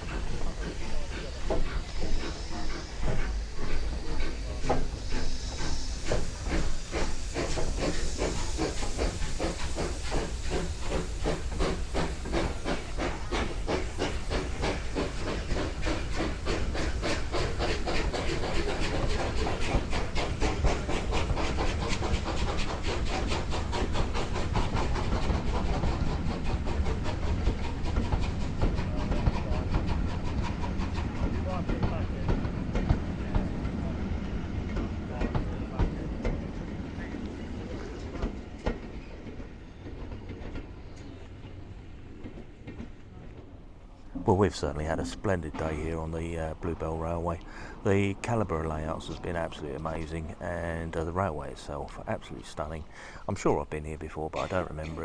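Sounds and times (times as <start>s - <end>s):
steam hissing: 0.0s - 55.0s
steam locomotive exhaust beats: 0.0s - 55.0s.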